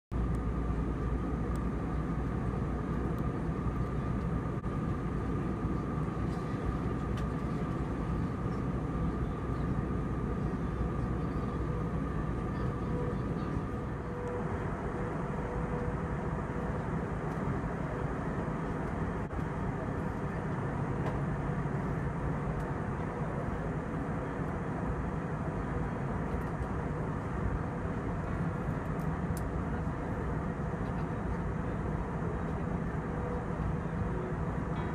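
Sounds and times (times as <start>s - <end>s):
aircraft cabin engine drone: 0.1s - 34.9s
faint steady whine: 0.1s - 34.9s.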